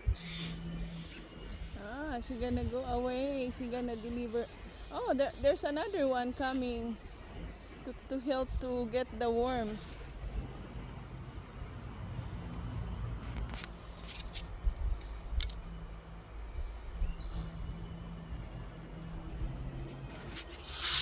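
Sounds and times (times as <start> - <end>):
low steady rumble: 0.0 - 20.6.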